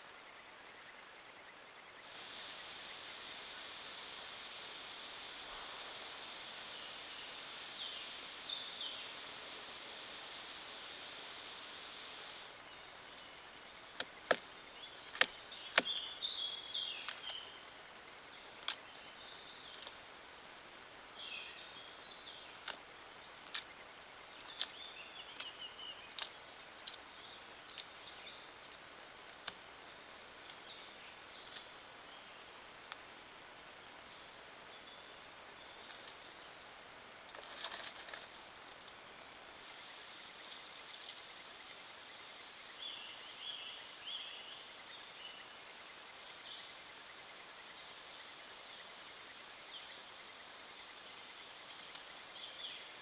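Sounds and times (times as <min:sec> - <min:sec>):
birds chirping: 0:00.0 - 0:53.0
microphone hiss: 0:00.0 - 0:53.0.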